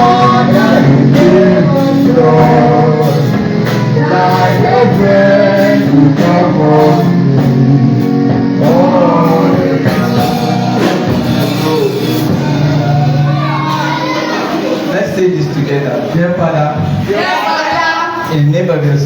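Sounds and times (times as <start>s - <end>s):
gospel music with singer and guitar: 0.0s - 19.0s.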